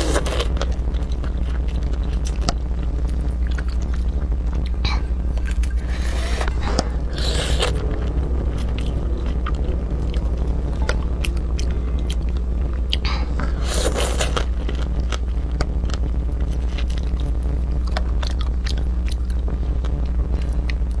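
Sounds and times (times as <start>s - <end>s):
crab shells crunching: 0.0s - 9.6s, 10.7s - 21.0s
steady low hum: 0.0s - 21.0s.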